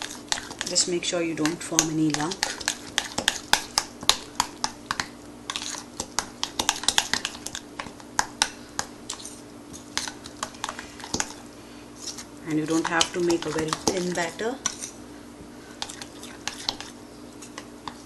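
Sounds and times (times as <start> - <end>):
spoon stirring batter in bowl: 0.0 - 15.0, 15.6 - 18.0.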